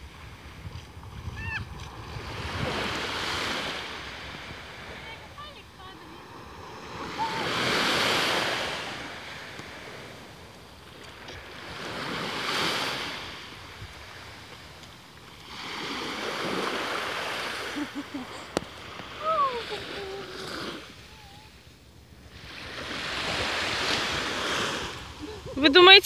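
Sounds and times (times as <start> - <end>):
small waves breaking on shore: 0.0 - 26.0.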